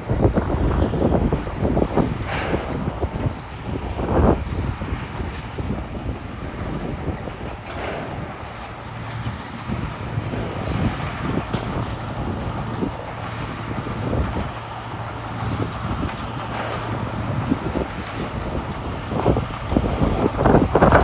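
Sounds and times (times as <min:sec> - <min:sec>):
bulldozer diesel engine running: 0:00.0 - 0:21.0
tracks clanking on gravel: 0:00.0 - 0:21.0.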